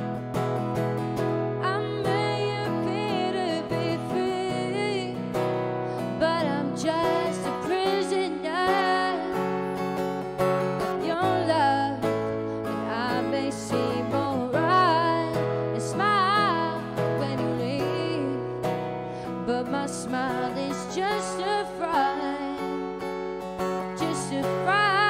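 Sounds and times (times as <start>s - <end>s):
strummed acoustic guitar: 0.0s - 25.0s
woman singing with vibrato: 1.6s - 9.9s, 10.9s - 18.6s, 19.3s - 23.0s, 23.8s - 25.0s.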